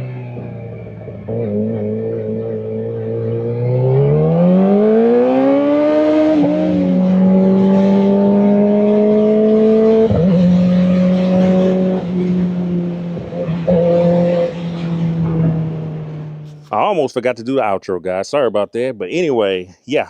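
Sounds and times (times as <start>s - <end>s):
motorcycle engine accelerating: 0.0s - 16.7s.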